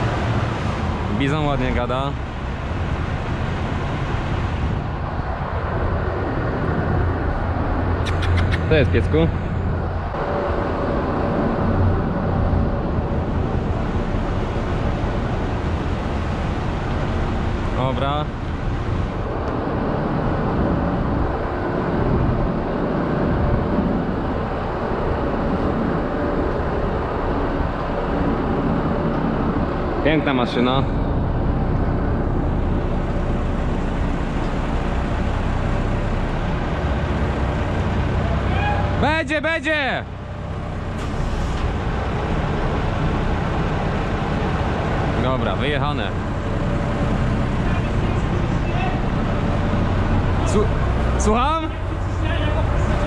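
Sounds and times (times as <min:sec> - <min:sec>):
diesel engine low hum: 0:00.0 - 0:53.0.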